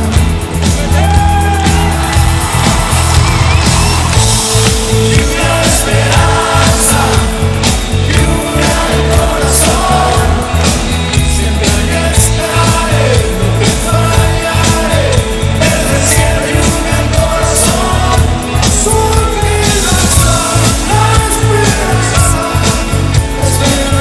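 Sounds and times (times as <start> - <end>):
live rock band playing: 0.0 - 24.0
person singing: 4.1 - 24.0.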